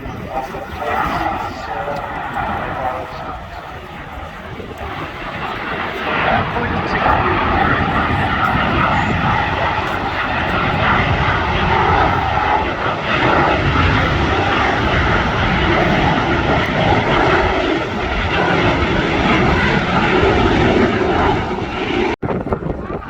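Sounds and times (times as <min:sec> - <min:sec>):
aircraft engines flying past: 0:00.0 - 0:23.0.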